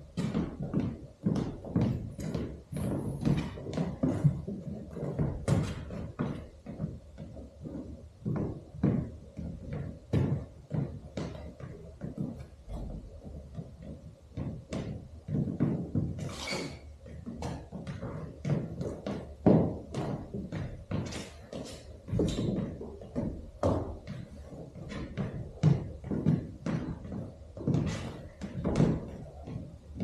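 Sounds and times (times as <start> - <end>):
boots stamping on stage floor: 0.0 - 30.0.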